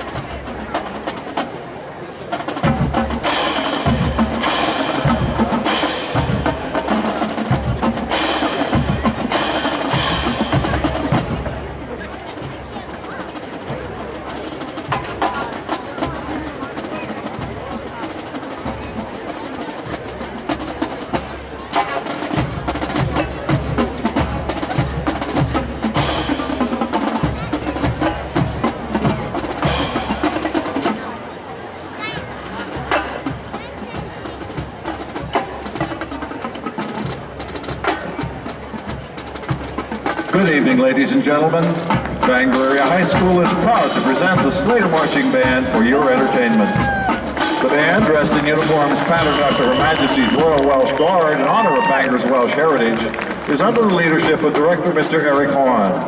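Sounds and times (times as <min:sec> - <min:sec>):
snare and bass drums: 0:00.0 - 0:01.6, 0:02.3 - 0:31.1, 0:32.0 - 0:56.0
marching percussion playing: 0:00.0 - 0:01.7, 0:02.3 - 0:31.2, 0:32.0 - 0:56.0.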